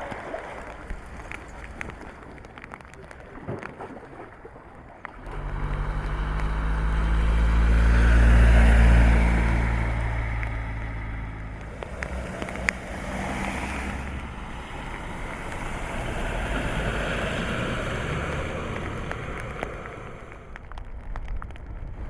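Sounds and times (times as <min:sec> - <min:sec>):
low engine hum: 0:00.0 - 0:22.0
rushing water: 0:00.0 - 0:22.0
wind: 0:00.0 - 0:22.0.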